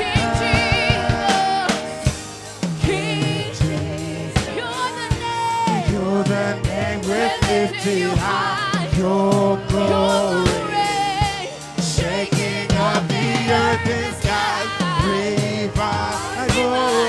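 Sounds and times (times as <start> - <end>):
band with drum kit: 0.0 - 17.0.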